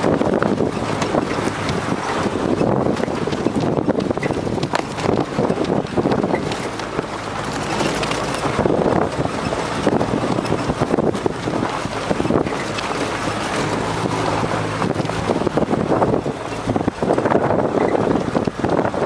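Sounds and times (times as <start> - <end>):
tyres crackling on snow: 0.0 - 19.0
vehicle body rattling: 0.0 - 19.0
vehicle engine in low gear: 0.0 - 19.0.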